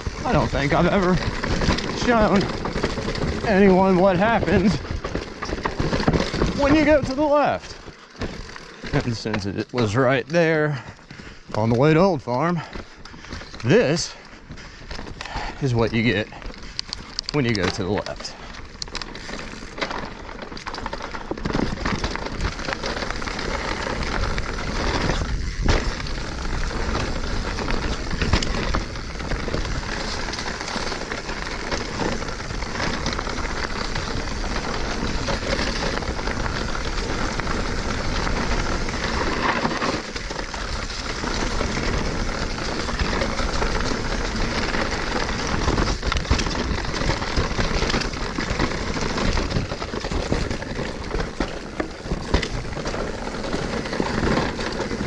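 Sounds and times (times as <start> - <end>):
bike rattling clicks and knocks: 0.0 - 55.0
bike tyres rushing over dirt: 0.0 - 55.0.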